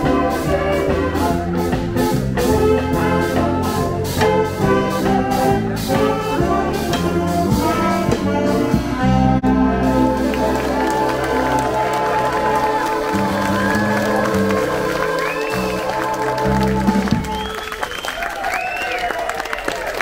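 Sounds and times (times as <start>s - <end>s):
drum kit steady beat: 0.0s - 17.6s
saxophone ensemble playing jazz: 0.0s - 18.5s.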